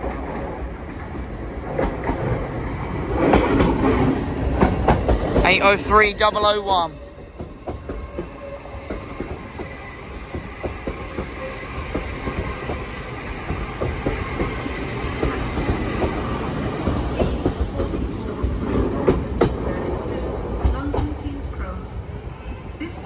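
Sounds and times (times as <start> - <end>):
electric train rumble: 0.0 - 23.0.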